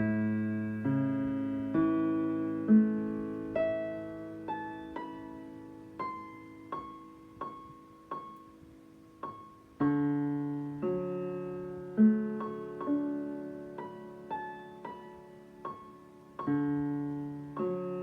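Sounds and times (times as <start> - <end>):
electric piano playing slowly: 0.0 - 18.0.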